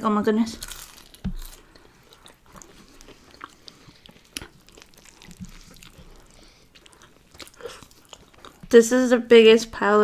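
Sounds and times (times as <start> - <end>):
chewing and crunching: 0.4 - 8.8.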